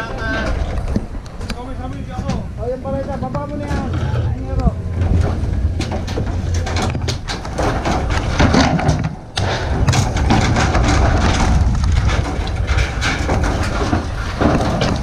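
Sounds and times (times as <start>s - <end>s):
steady low rumble: 0.0s - 15.0s
wooden boards clattering: 2.1s - 15.0s.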